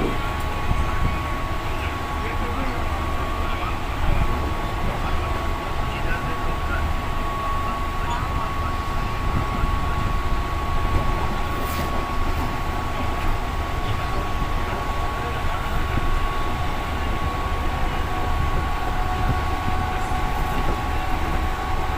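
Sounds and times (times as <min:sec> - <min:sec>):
passenger train running: 0:00.0 - 0:21.9.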